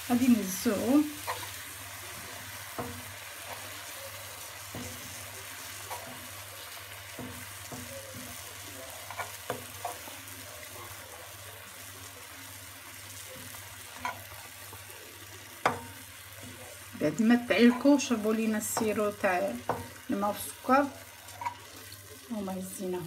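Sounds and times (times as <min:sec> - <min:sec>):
sugar syrup sizzling and bubbling: 0:00.0 - 0:23.0.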